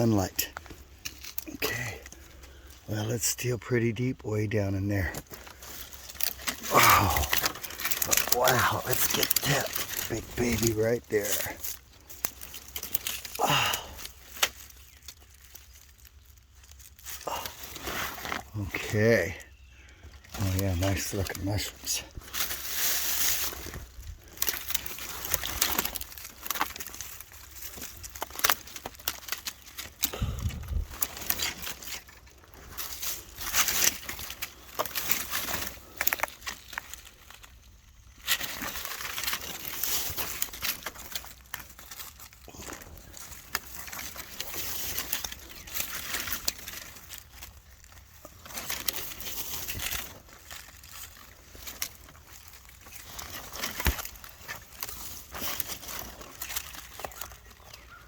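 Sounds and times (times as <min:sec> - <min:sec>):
small clicks and rustles: 0:00.0 - 0:02.9, 0:05.0 - 0:58.0
soil crumbling and trickling: 0:00.0 - 0:58.0
hand digging in loose dirt: 0:05.0 - 0:58.0.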